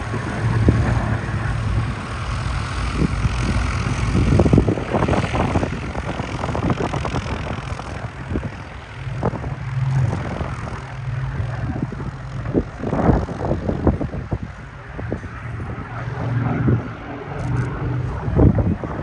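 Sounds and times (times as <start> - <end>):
small plane engine humming: 0.0 - 19.0
wind buffeting microphone: 0.0 - 19.0.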